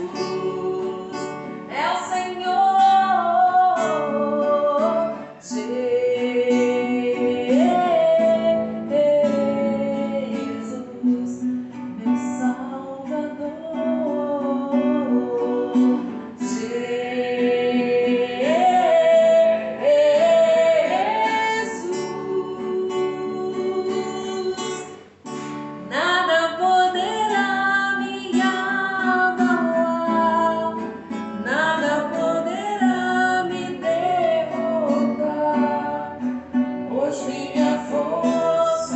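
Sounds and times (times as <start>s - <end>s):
woman singing: 0.0s - 25.2s, 25.8s - 38.9s
acoustic guitar: 0.0s - 38.9s.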